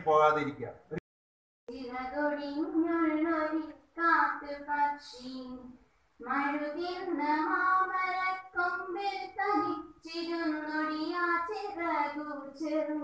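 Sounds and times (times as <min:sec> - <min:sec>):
girl singing: 0:01.7 - 0:13.0.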